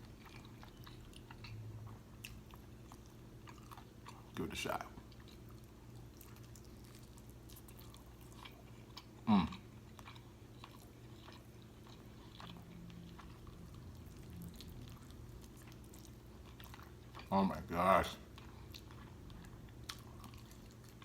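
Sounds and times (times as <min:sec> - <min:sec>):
chewing and biting food: 0:00.0 - 0:21.0.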